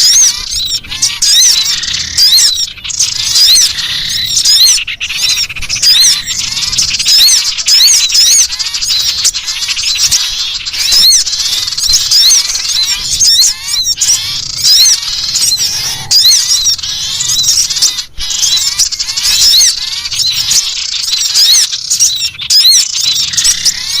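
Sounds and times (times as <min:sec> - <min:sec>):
bird harsh chattering alarm call: 0:00.0 - 0:24.0.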